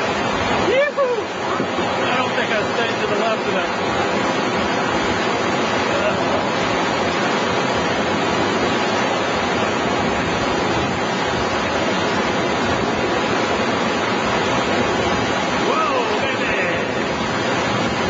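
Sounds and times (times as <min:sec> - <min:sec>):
river rapid roaring: 0:00.0 - 0:18.0.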